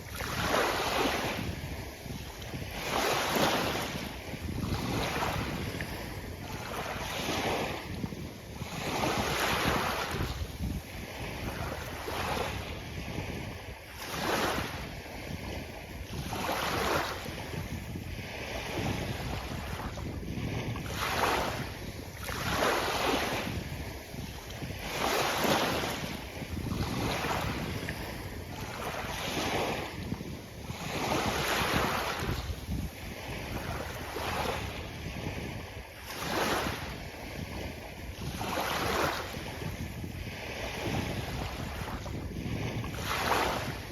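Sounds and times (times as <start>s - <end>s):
sea waves breaking on beach: 0.0s - 43.9s
wind rumble on microphone: 0.0s - 43.9s.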